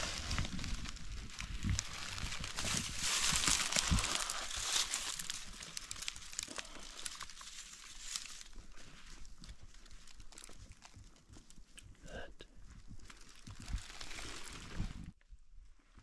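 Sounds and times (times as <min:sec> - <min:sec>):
rustling of dry leaves and scrub: 0:00.0 - 0:16.0.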